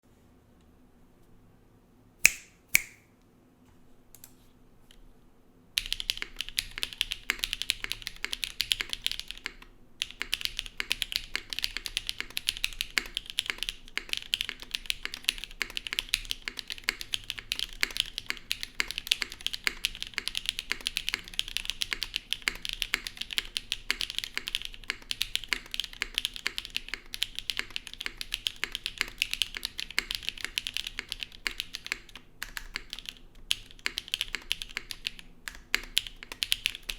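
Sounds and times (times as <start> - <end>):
mechanical keyboard typing: 5.8 - 36.9.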